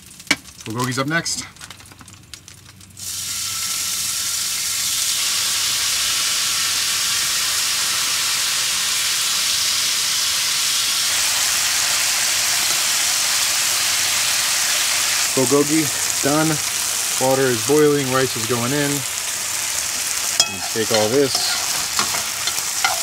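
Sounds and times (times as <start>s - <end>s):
beef sizzling in hot pan: 0.0s - 23.0s.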